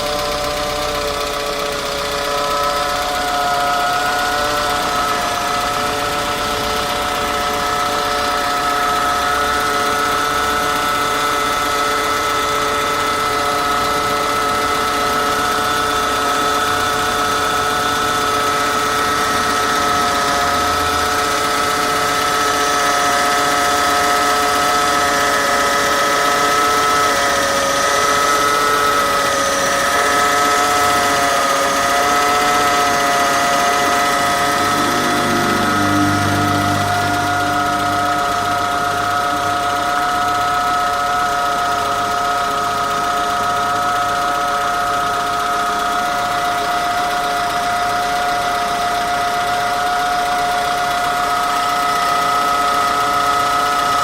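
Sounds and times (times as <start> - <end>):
petrol engine idling: 0.0 - 54.0
power steering pump whine: 0.0 - 54.0.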